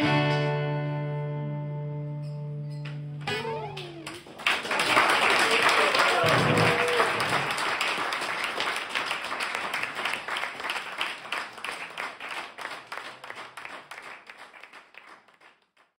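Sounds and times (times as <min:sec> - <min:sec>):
small audience applauding: 0:02.8 - 0:16.0.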